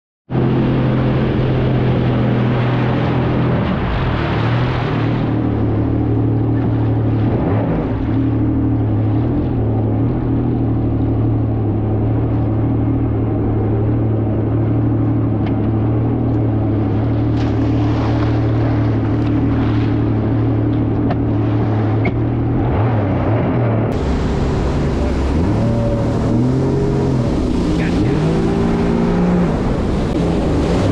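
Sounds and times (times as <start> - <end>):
jet ski engine running: 0.3 - 30.9.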